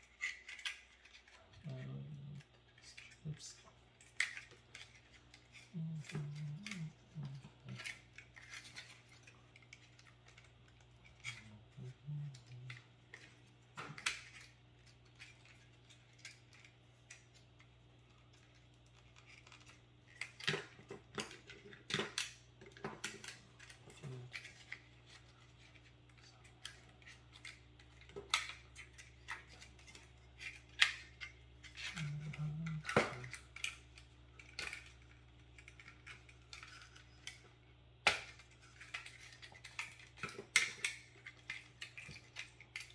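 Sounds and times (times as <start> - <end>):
plastic and metal parts clattering: 0.0 - 37.5, 38.1 - 42.9.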